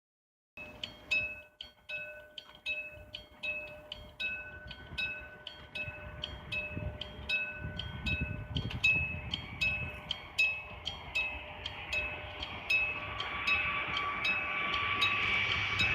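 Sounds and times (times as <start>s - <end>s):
crossing warning bell ringing: 0.6s - 15.9s
low train rumble: 0.6s - 15.9s.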